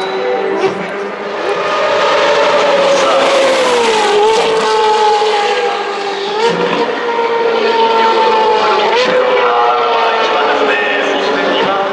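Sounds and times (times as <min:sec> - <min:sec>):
car engine revving high: 0:00.0 - 0:11.9.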